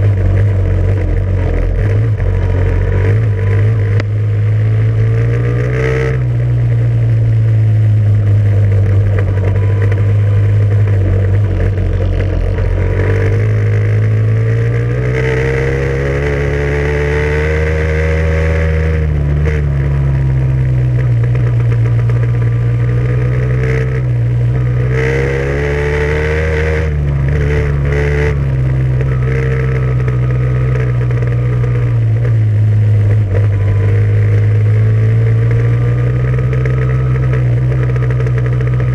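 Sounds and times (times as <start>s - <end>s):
loud vehicle engine revving: 0.0s - 38.9s.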